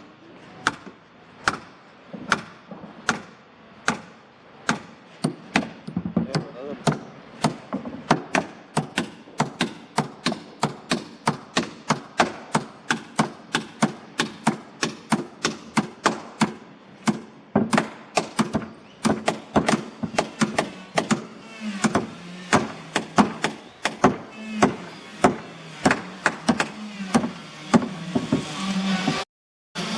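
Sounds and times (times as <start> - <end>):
hand tool striking timber: 0.6 - 29.2.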